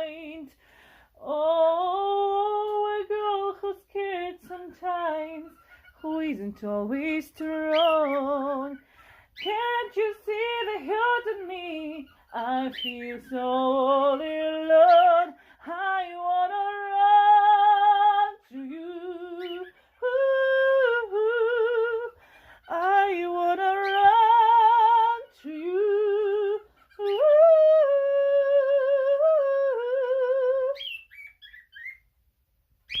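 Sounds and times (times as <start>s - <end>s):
woman singing soprano: 0.0s - 0.6s, 1.2s - 30.9s.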